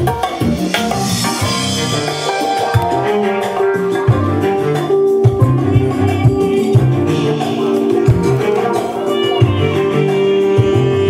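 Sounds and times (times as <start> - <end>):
smooth jazz through speakers: 0.0 - 11.0.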